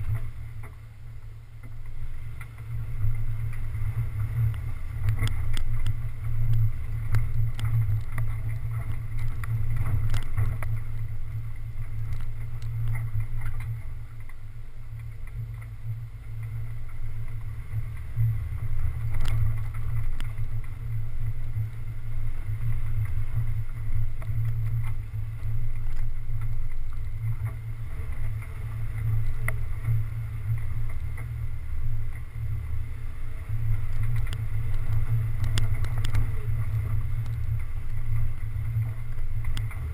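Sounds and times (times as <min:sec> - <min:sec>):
vehicle rumbling on dirt track: 0:00.0 - 0:39.9.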